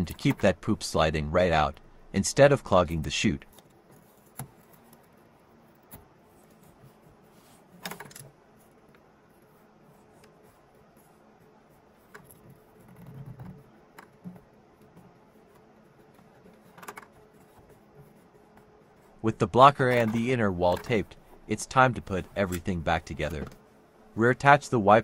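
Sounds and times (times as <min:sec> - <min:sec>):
small clicks and scratches: 0:00.0 - 0:00.6, 0:03.4 - 0:19.2, 0:19.8 - 0:23.7.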